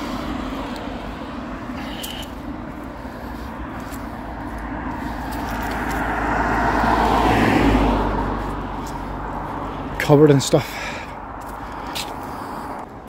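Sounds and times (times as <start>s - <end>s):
car passing by: 0.0s - 13.0s.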